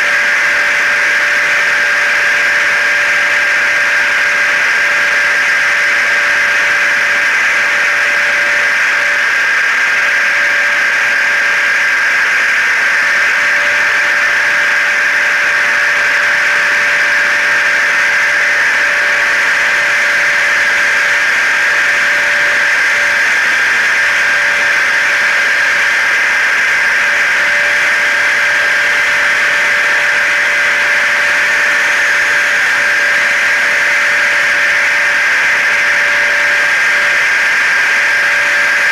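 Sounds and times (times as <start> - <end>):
hair dryer: 0.0 - 38.9
vacuum cleaner: 0.0 - 38.9.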